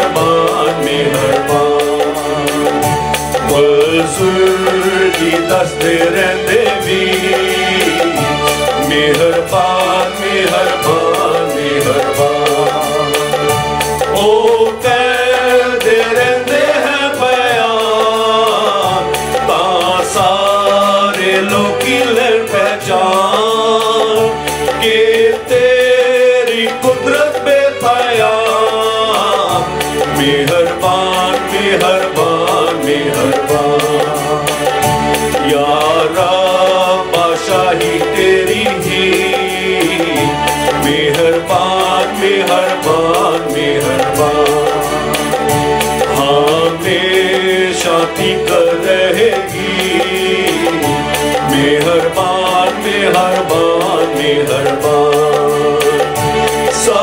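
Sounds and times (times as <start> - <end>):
electronic keyboard: 0.0 - 57.0
men singing a worship song: 0.0 - 57.0.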